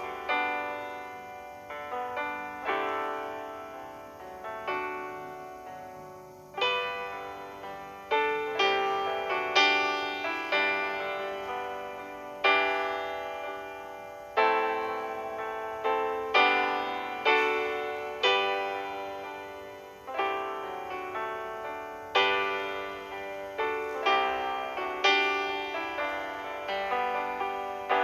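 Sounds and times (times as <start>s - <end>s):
slow piano chords: 0.0s - 28.0s.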